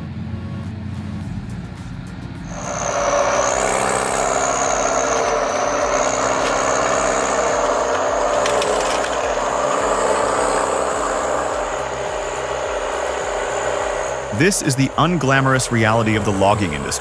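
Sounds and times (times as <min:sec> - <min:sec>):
diesel truck engine running: 0:00.0 - 0:17.0
high whine: 0:00.0 - 0:17.0.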